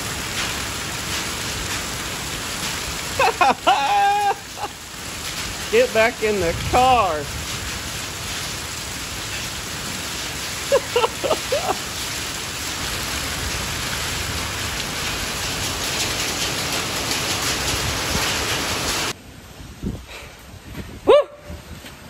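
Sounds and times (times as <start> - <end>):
heavy rain pouring: 0.0 - 21.7.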